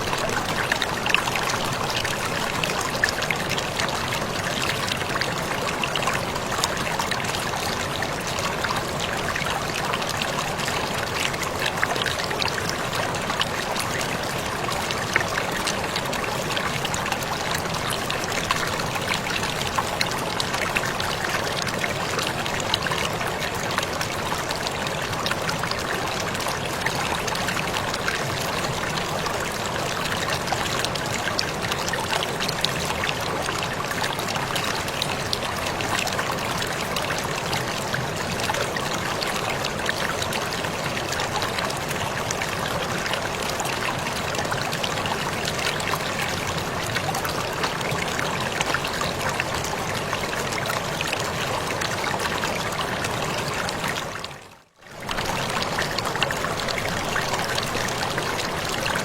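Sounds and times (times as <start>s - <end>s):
waterfall rushing and splashing: 0.0s - 54.3s.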